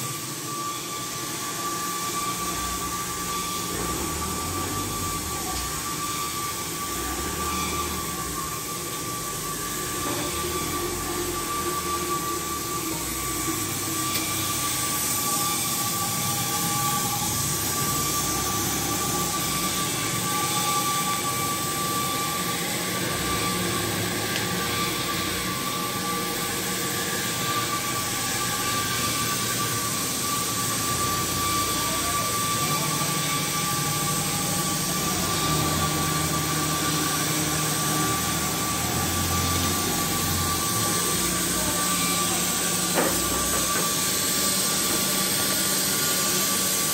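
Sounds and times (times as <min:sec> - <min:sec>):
cutting torch hissing: 0:00.0 - 0:46.9.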